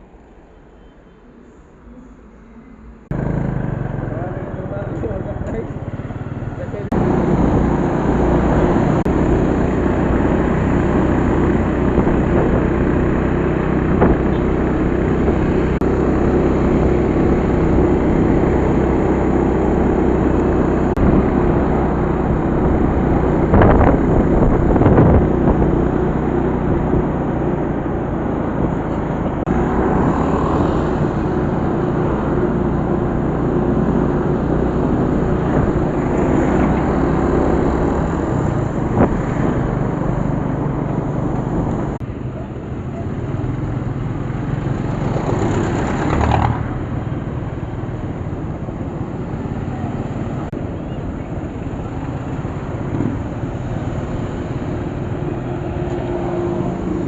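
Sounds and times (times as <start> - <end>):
vehicle engine hum and road noise: 2.8 - 57.0.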